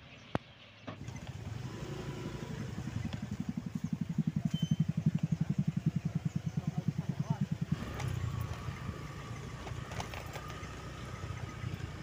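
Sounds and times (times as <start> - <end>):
small motorcycle engine running: 1.0 - 12.0.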